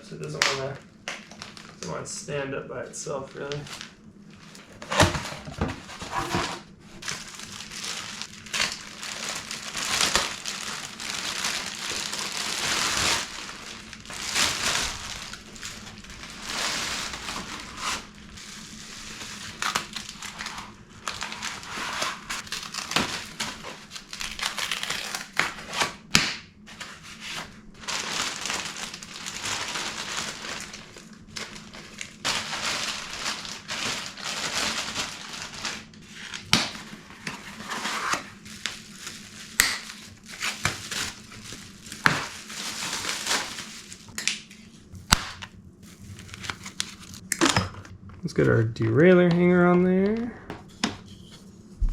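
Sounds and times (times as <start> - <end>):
wrapping crinkling and rustling: 0.0 - 47.4.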